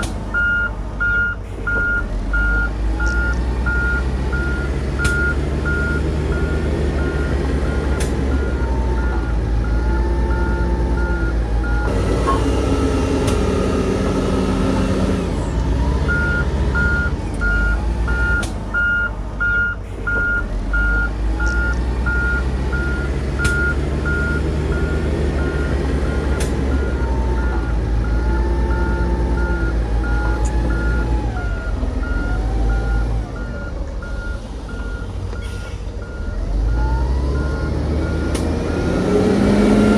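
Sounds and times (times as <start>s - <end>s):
diesel engine revving: 0.0s - 39.9s
reverse alarm beeping: 0.0s - 39.9s.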